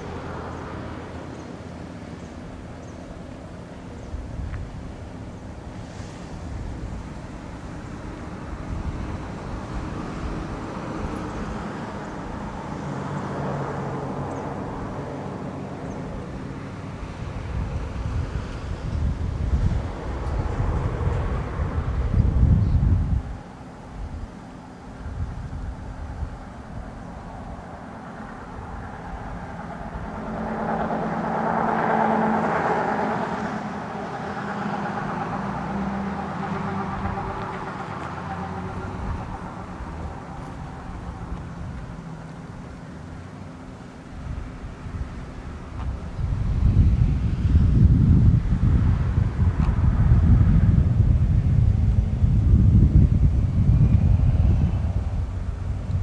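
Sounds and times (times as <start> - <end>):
road traffic: 0.0 - 56.0
steady low hum: 0.0 - 56.0
vehicle passing: 0.0 - 56.0
wind on microphone: 4.0 - 12.8, 15.8 - 42.0, 44.2 - 56.0.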